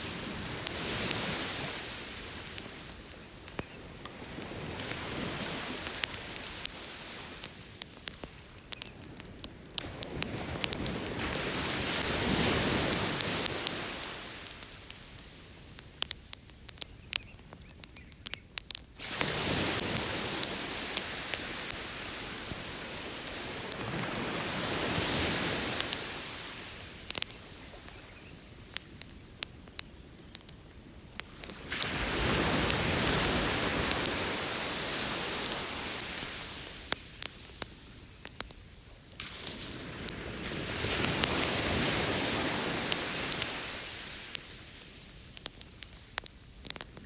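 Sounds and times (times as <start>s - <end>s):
campfire crackling and popping: 0.0s - 47.0s
ocean waves washing onto beach: 0.0s - 47.0s.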